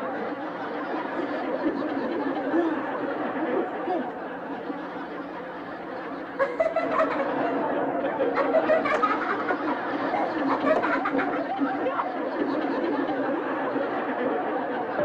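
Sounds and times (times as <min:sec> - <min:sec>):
audience laughter: 0:00.0 - 0:15.0.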